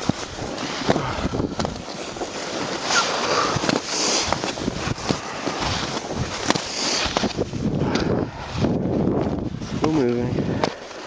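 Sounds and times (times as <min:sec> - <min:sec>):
skis scraping on snow: 0:00.0 - 0:11.0
wind on microphone: 0:00.0 - 0:11.0.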